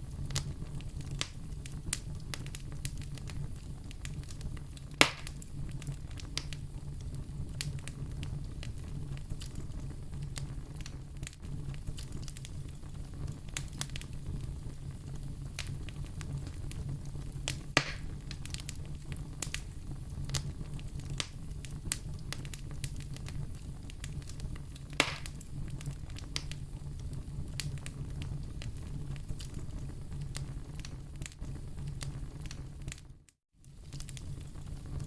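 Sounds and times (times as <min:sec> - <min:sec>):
fire snapping: 0:00.0 - 0:35.0
wood fire crackling: 0:00.0 - 0:35.0.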